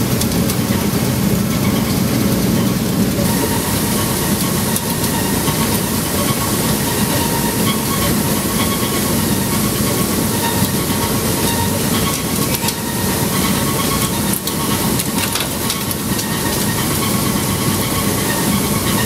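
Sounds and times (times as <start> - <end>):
machine rumbling and rattling: 0.0 - 19.0.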